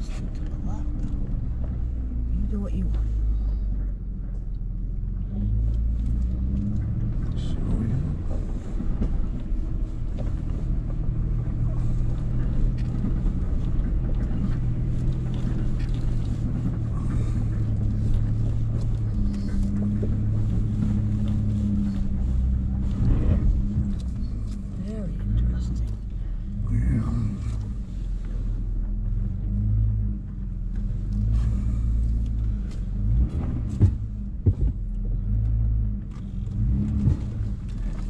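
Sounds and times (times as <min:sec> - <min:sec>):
engine running at low revs: 0:00.0 - 0:38.0
truck knocks and rattles: 0:00.0 - 0:38.0.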